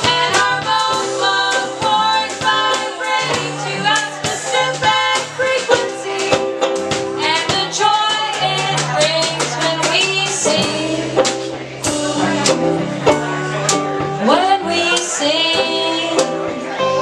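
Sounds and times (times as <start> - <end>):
guitar: 0.0 - 17.0
live band playing: 0.0 - 17.0.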